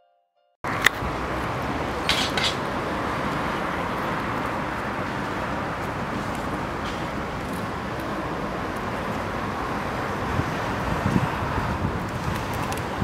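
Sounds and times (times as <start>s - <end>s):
traffic: 0.6s - 13.0s.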